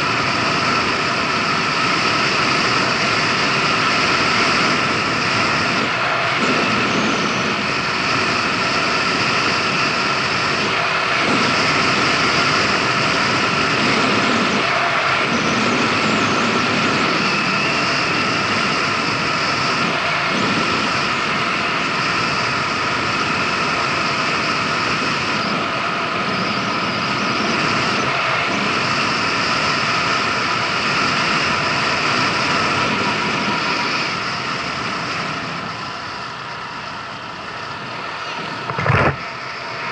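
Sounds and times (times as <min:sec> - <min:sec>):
scooter engine drone: 0:00.0 - 0:39.9
wind rushing on microphone: 0:00.0 - 0:39.9.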